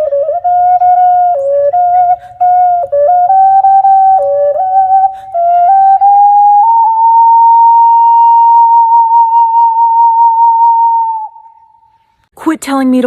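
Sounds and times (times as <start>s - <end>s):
flute-like melody: 0.0s - 12.1s.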